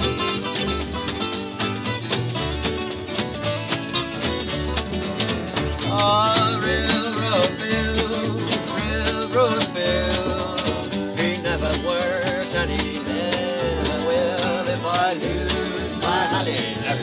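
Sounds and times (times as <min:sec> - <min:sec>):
double bass pulsing: 0:00.0 - 0:17.0
strummed acoustic guitars: 0:00.0 - 0:17.0.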